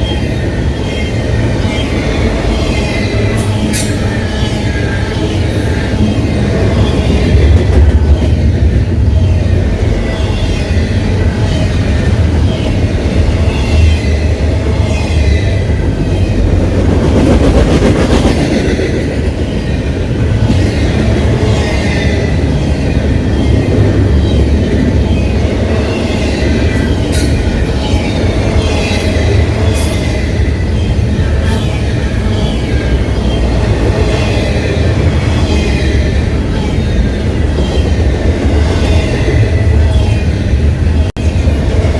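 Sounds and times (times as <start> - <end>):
steel wheels rumbling on rail: 0.0 - 41.9.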